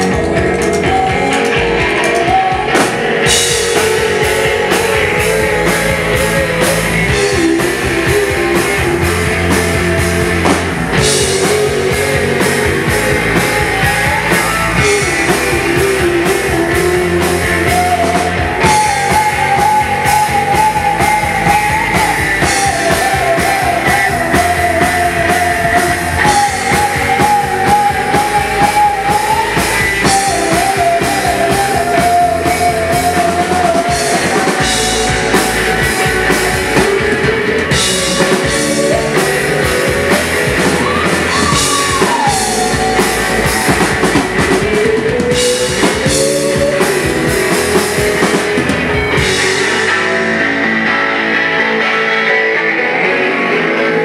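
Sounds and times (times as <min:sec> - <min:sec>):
drums: 0:00.0 - 0:54.0
electric guitar: 0:00.0 - 0:54.0
held melodic line: 0:00.0 - 0:54.0
keyboard: 0:00.0 - 0:54.0.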